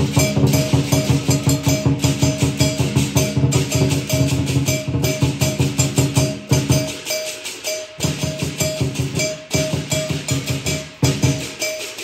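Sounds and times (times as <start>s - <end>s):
big drum beaten rapidly: 0.0s - 12.0s
clashing cymbals: 0.0s - 12.0s
ringing gong: 0.0s - 12.0s.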